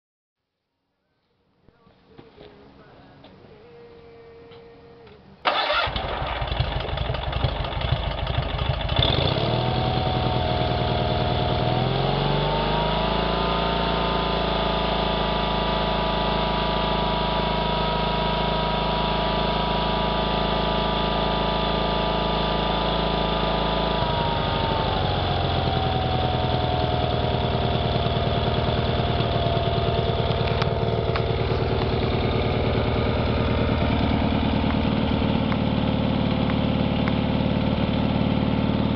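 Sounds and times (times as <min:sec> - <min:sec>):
tractor engine cranking and revving: 0:05.4 - 0:38.9.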